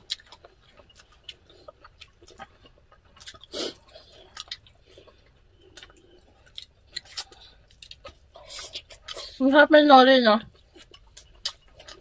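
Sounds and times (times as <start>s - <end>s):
people chewing rice: 0.0s - 12.0s.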